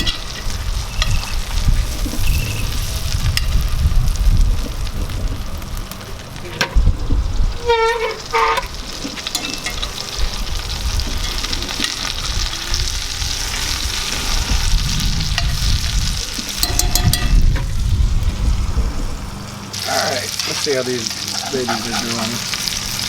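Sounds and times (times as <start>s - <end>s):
chicken sizzling in a skillet: 0.0s - 23.0s.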